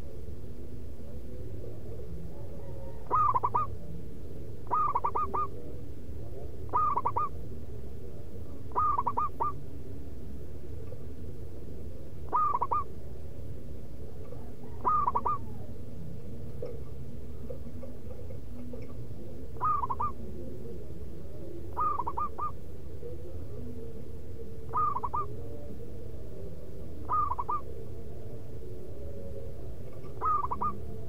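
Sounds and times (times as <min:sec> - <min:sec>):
dove cooing: 0:00.0 - 0:00.3, 0:00.9 - 0:31.0
low background noise: 0:00.0 - 0:31.0.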